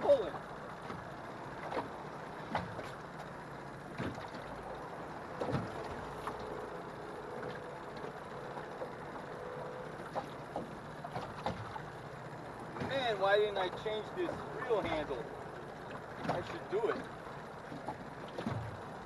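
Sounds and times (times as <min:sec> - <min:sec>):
faint steady hum: 0:00.0 - 0:19.0
water lapping against boat hull: 0:00.0 - 0:19.0.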